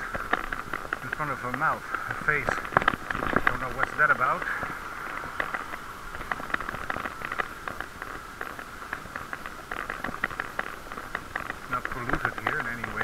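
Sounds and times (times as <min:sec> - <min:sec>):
bicycle clicks and rattles: 0:00.0 - 0:13.0
steady rushing noise: 0:00.0 - 0:13.0.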